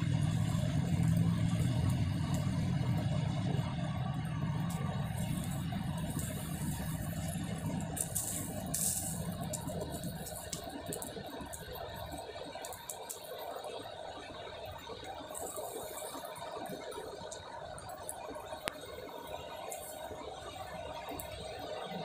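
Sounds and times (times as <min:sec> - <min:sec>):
coals crackling and popping: 0:00.0 - 0:22.0.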